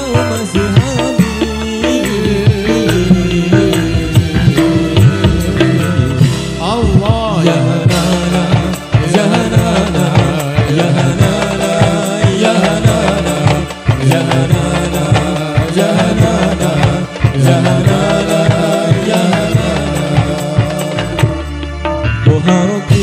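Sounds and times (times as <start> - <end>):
frame drums beating fast: 0.0 - 21.7
men singing into microphones: 0.0 - 23.0.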